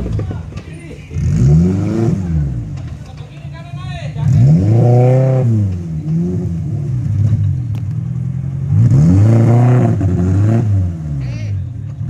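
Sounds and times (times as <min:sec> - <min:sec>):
engine revving under load: 0:00.0 - 0:03.1, 0:03.7 - 0:12.0.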